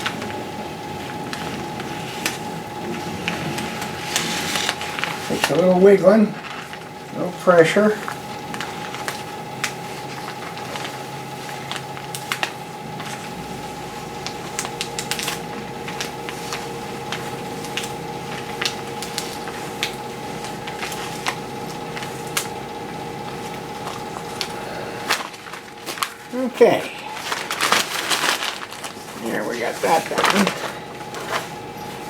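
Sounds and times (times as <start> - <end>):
steady tonal hum: 0.0 - 32.0
vinyl film ticks and crackles: 0.0 - 32.0.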